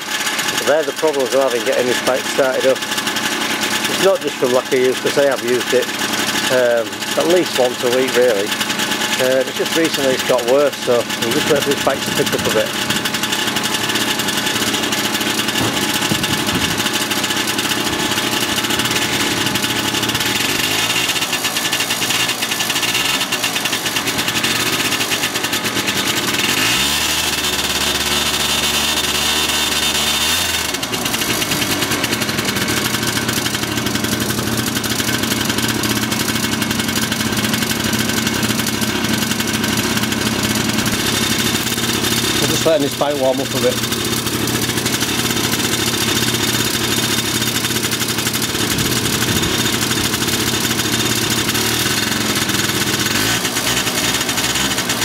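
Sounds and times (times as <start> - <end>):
scooter engine idling and revving: 0.0 - 55.0.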